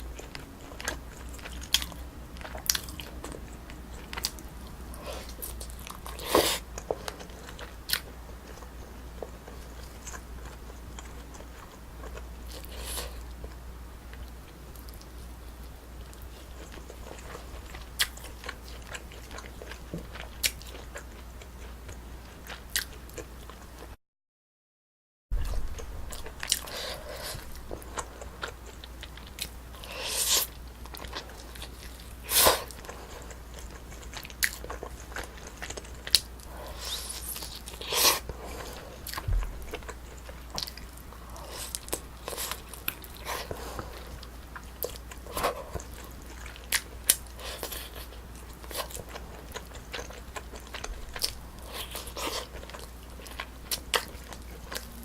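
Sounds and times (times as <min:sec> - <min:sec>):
person chewing and smacking: 0:00.1 - 0:15.2, 0:16.0 - 0:23.6, 0:25.4 - 0:55.0.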